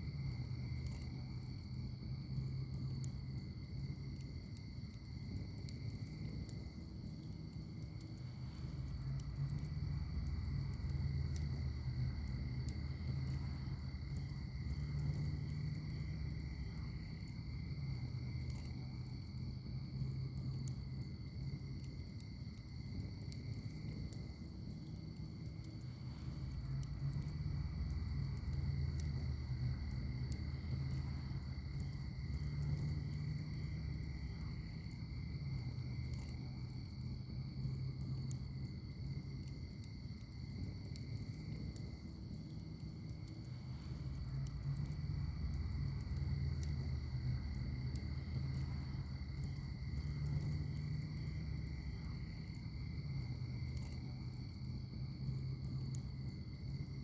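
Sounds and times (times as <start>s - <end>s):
fire crackles and pops: 0.0s - 57.0s
fire flames rumbling: 0.0s - 57.0s
high insect trill: 7.8s - 57.0s.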